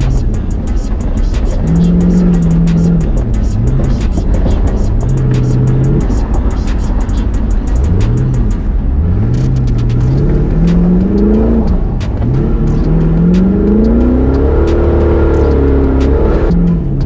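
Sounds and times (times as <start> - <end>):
rally car engine revving: 0.0 - 17.0
sharp ticks: 0.0 - 17.0.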